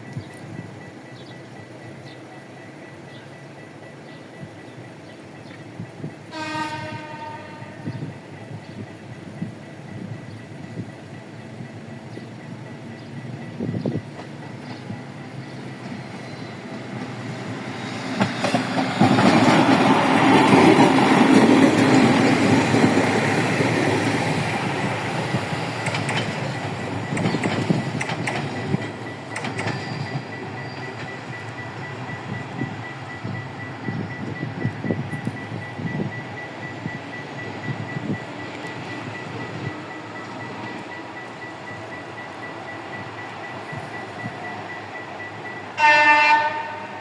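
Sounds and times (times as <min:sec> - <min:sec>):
passenger train passing: 0:00.0 - 0:47.0.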